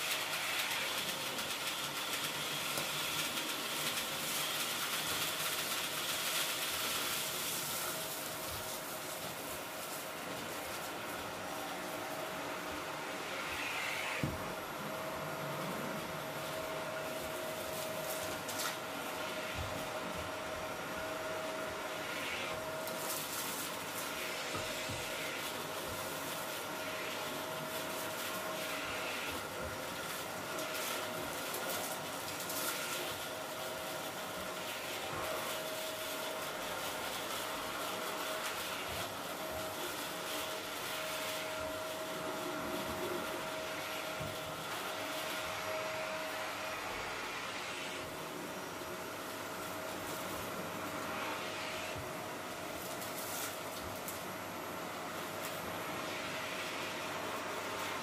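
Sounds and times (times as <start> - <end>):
vacuum cleaner motor whine: 0.0 - 58.0
vacuum suction on rug: 0.0 - 58.0.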